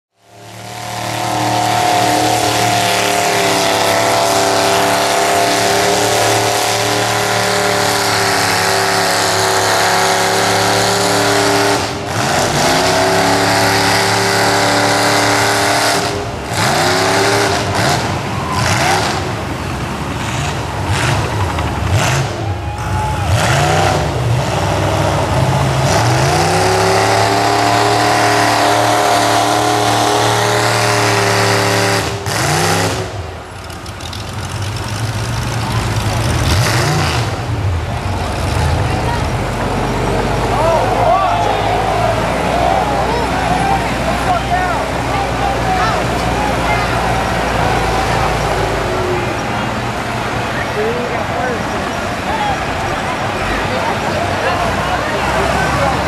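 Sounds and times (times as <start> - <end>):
truck engine revving: 0.1 - 56.0.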